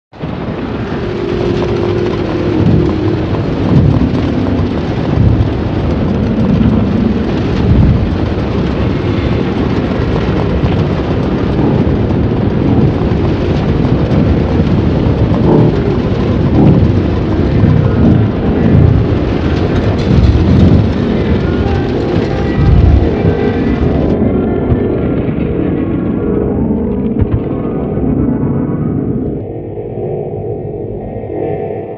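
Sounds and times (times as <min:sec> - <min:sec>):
dense rumbling noise: 0:00.1 - 0:31.9.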